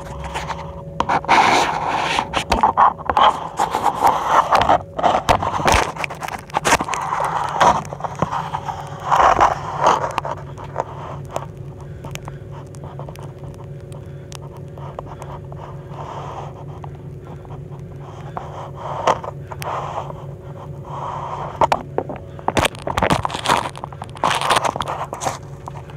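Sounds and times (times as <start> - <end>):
person breathing hard: 0.0 - 25.9
scraping and light clicks: 0.0 - 25.9
steady low hum: 0.0 - 25.9.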